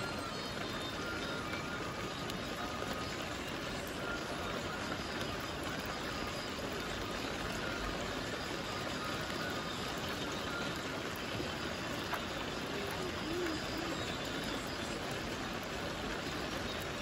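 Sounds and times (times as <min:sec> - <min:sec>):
rushing running water: 0:00.0 - 0:17.0.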